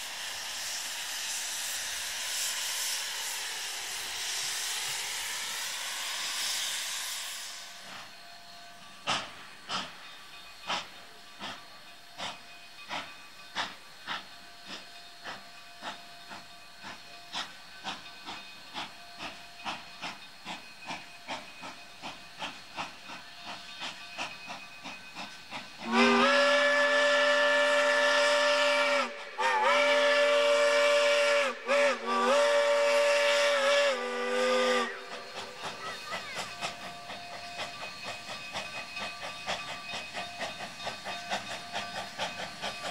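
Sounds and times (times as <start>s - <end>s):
steam chime whistle: 0.0s - 42.9s
steam locomotive exhaust beats: 0.0s - 42.9s.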